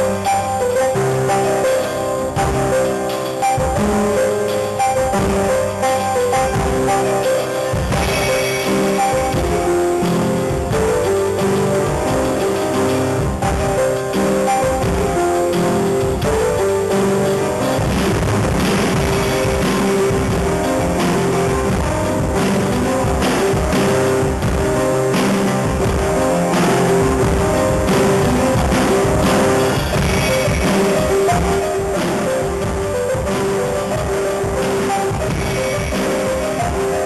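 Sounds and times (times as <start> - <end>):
drum kit drumming: 0.0 - 37.0
held electric keyboard notes: 0.0 - 37.0.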